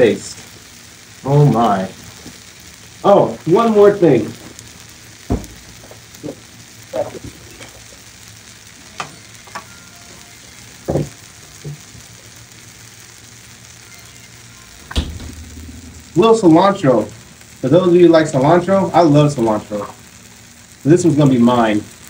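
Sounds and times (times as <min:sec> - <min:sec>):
food sizzling on griddle: 0:00.0 - 0:22.0.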